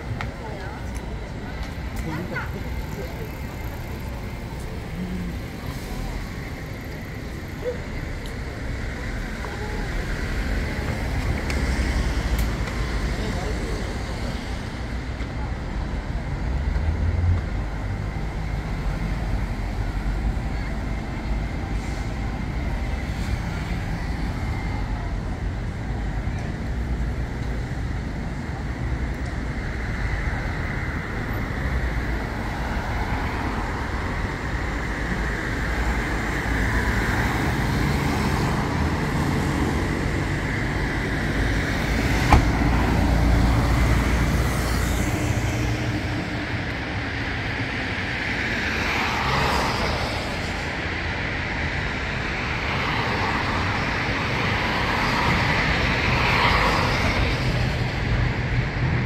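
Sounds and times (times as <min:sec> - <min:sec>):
passing cars rumbling: 0:00.0 - 0:59.0.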